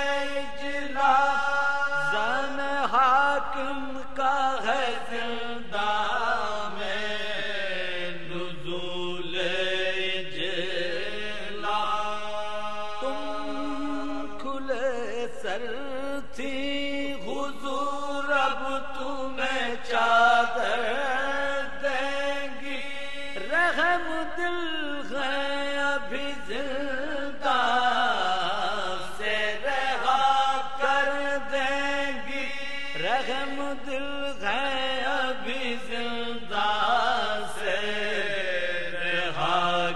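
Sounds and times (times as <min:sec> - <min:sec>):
man chanting melodically: 0:00.0 - 0:39.9.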